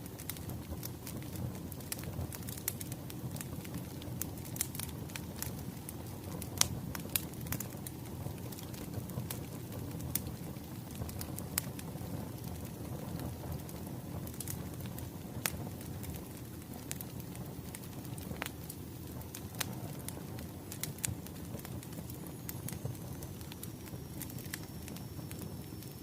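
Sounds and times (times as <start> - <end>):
fire crackles and pops: 0.0 - 26.0
wood fire low rumble: 0.0 - 26.0.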